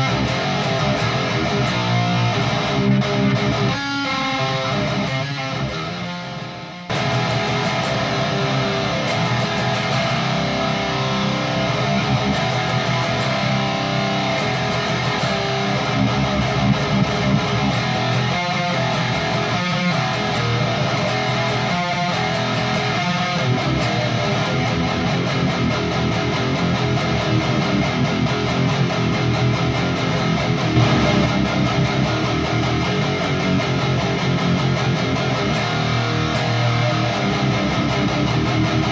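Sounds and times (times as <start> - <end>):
distorted electric guitar riffs: 0.0 - 38.9.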